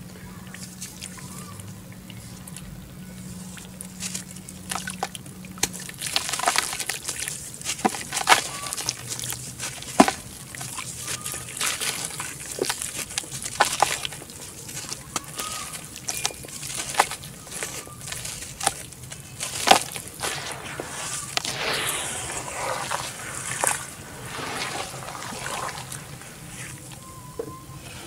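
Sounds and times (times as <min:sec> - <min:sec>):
water sloshing and dripping: 0:00.4 - 0:27.7
wet mud splats and crackles: 0:03.4 - 0:27.1.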